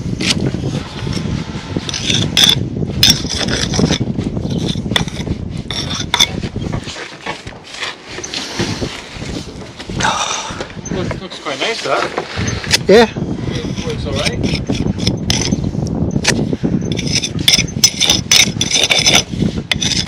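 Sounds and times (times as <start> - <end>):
brick jointer scraping mortar: 0.0 - 9.8, 11.3 - 20.0.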